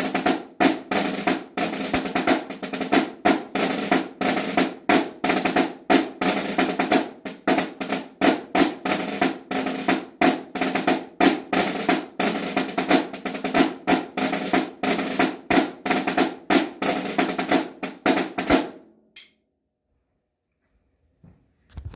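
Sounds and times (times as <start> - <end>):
snare drum march with rolls: 0.0 - 18.8.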